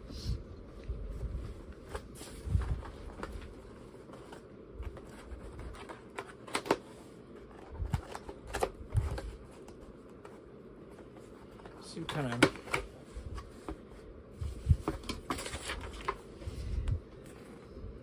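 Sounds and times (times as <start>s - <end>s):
packaging rustling and scraping: 1.3s - 17.5s.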